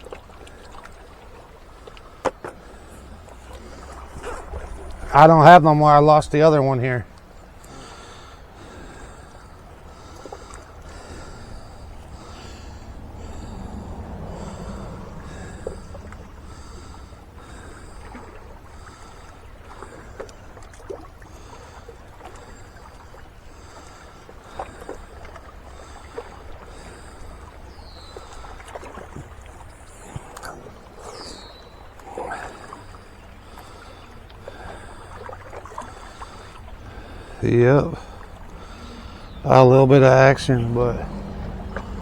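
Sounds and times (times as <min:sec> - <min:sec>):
low rumble of wind or water: 0:00.0 - 0:42.0.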